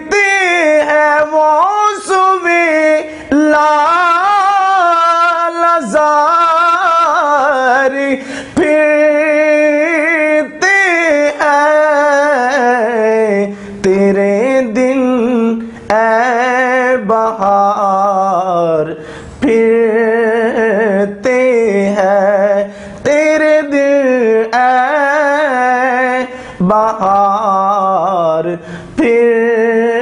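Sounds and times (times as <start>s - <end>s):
man singing solo: 0.0s - 30.0s.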